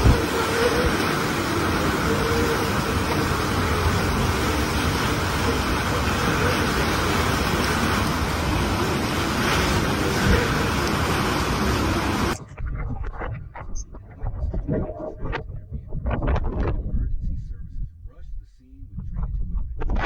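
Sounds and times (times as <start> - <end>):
strong wind rushing: 0.0 - 20.0.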